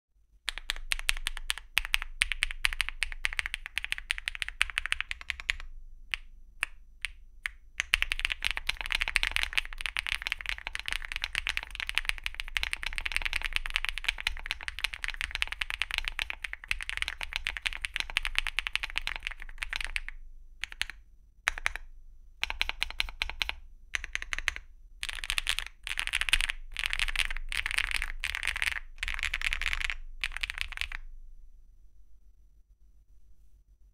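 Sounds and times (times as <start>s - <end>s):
mechanical keyboard typing: 0.5s - 31.0s.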